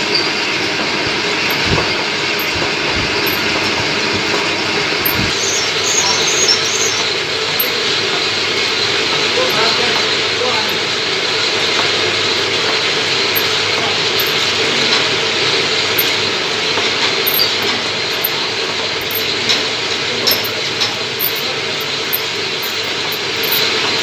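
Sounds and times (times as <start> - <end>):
lathe motor whirring: 0.0 - 24.0.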